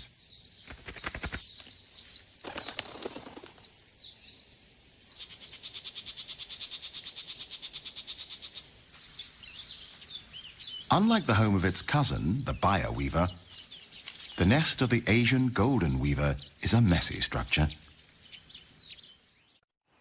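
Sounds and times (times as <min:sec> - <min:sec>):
bird trill: 0:00.0 - 0:19.6
songbirds chirping: 0:00.0 - 0:20.0.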